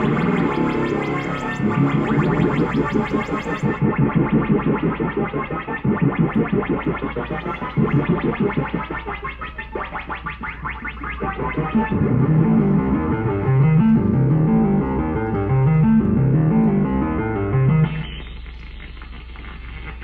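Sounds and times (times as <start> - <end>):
synthesizer arpeggio: 0.0 - 20.0
synthesizer bass line: 0.0 - 20.0.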